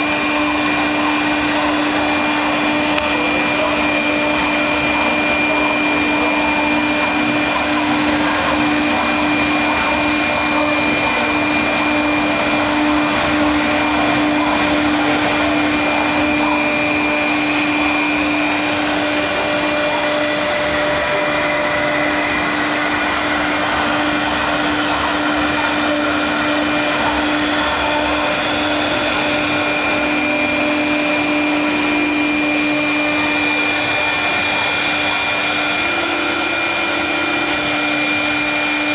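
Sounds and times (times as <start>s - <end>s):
wood router running: 0.0s - 38.9s.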